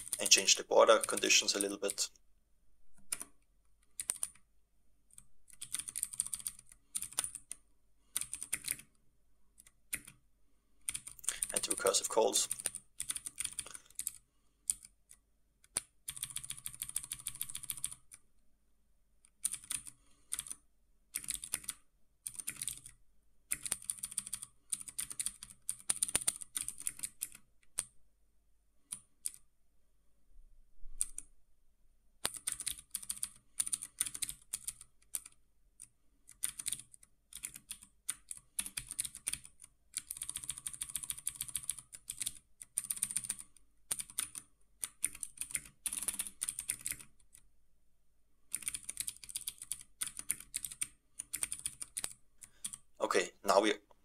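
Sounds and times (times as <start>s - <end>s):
typing on computer keyboard: 0.0s - 2.0s, 3.0s - 4.5s, 5.1s - 9.0s, 9.6s - 10.2s, 10.8s - 18.2s, 19.3s - 28.0s, 28.9s - 29.4s, 31.0s - 31.3s, 32.2s - 47.4s, 48.5s - 52.8s.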